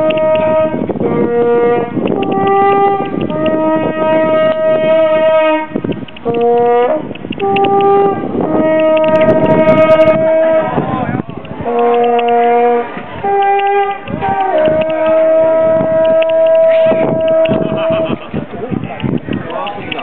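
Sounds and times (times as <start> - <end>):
french horn playing slow tune: 0.0 - 10.8, 11.6 - 18.0.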